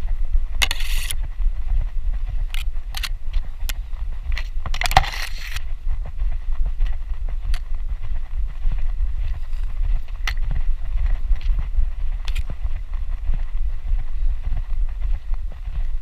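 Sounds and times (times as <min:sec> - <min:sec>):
low wind rumble on microphone: 0:00.0 - 0:16.0.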